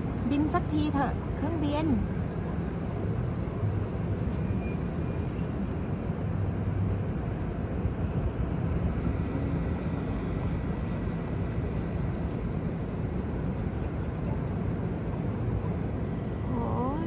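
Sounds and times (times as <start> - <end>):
airplane engine droning: 0.0 - 17.0.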